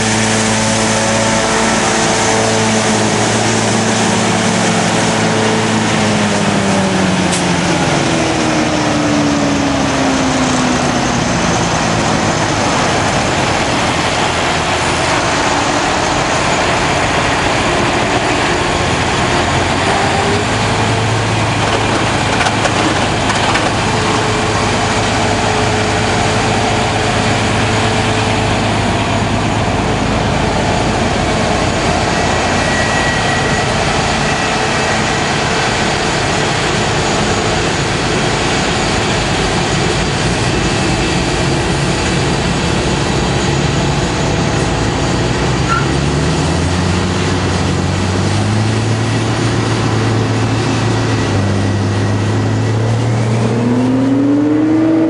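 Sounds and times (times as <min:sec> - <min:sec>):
farm machinery engine: 0:00.0 - 0:55.0
loud steady rush: 0:00.0 - 0:55.0.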